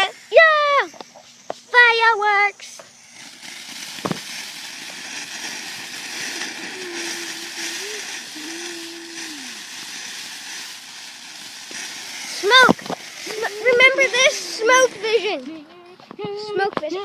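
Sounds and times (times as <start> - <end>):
ground firework hissing: 0.0 - 17.0.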